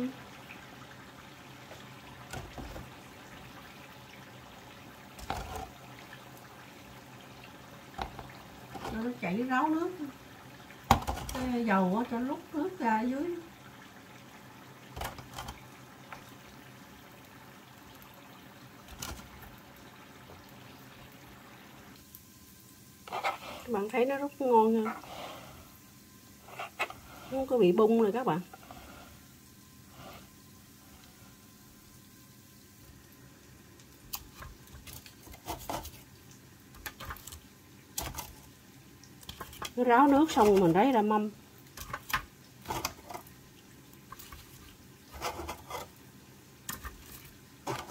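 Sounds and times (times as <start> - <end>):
faint steady hiss: 0.0 - 47.9.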